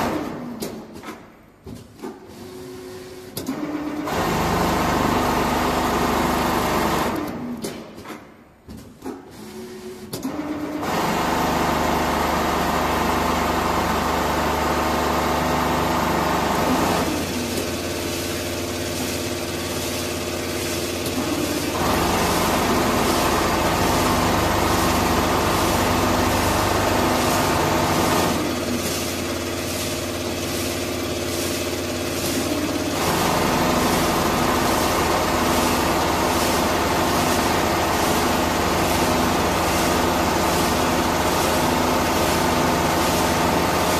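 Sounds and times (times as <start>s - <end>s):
sewing machine stitching: 2.3s - 7.8s, 9.2s - 43.9s.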